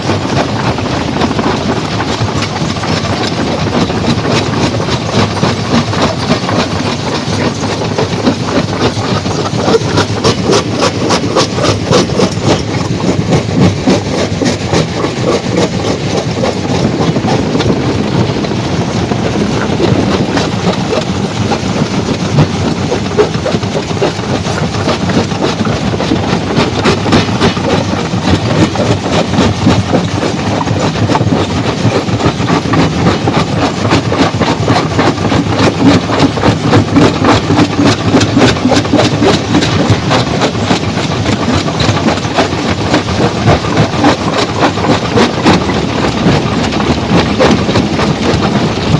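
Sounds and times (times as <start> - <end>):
stone crushing machine running: 0.0 - 48.9.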